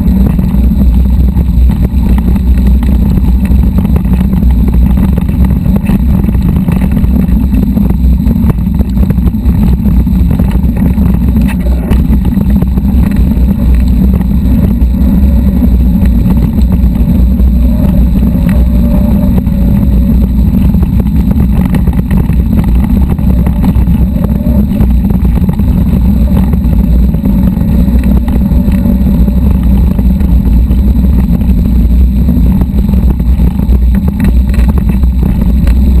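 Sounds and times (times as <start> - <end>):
wind rumble on microphone: 0.0 - 36.0.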